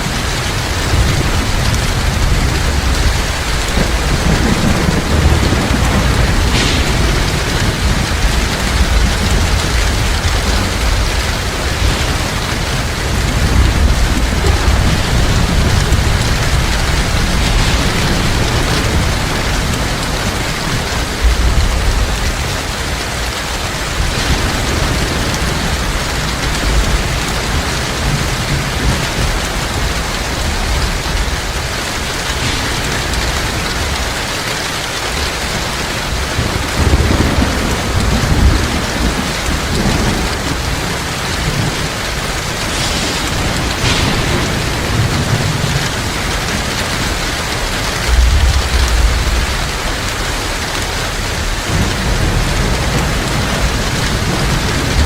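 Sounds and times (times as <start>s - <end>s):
heavy rain: 0.0s - 55.0s
thunder rumbling: 0.0s - 55.0s.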